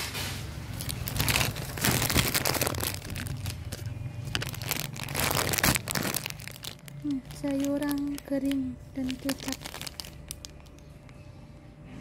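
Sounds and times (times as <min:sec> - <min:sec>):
plastic packet crinkling: 0:00.7 - 0:11.2.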